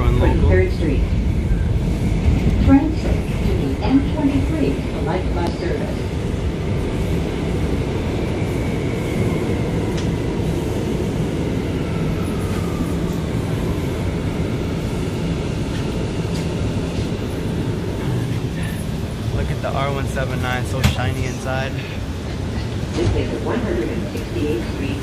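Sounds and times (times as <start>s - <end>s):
subway car rumble: 0.0s - 25.0s.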